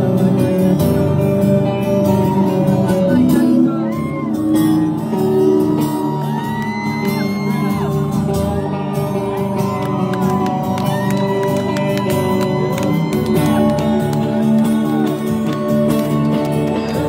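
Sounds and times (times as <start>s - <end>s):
worship band with guitar: 0.0s - 17.0s
people shouting and whooping: 1.7s - 17.0s.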